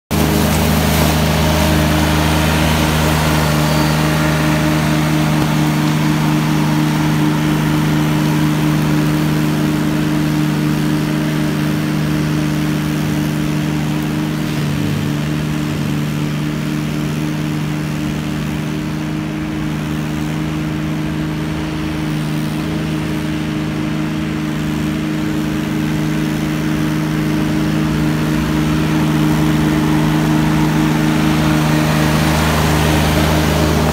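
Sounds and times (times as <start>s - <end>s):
flail mower engine hum: 0.1s - 33.9s.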